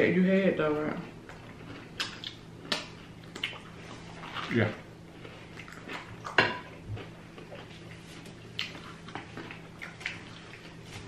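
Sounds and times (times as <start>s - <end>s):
chewing and mouth noises: 1.0s - 11.0s.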